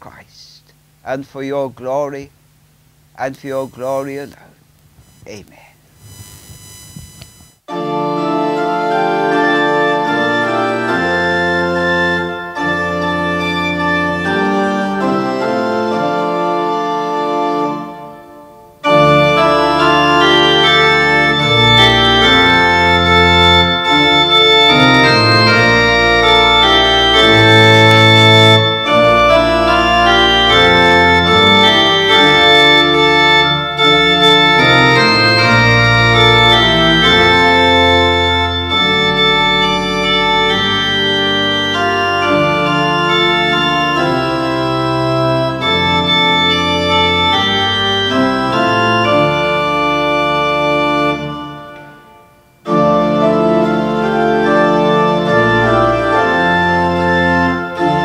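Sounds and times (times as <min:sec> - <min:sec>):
organ playing held chords: 0:01.9 - 0:05.4, 0:06.0 - 0:58.0.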